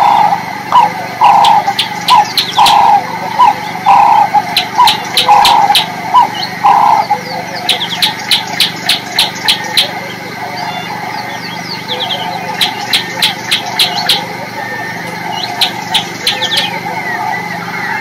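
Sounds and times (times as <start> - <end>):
high bird chirps: 0.0 - 18.0.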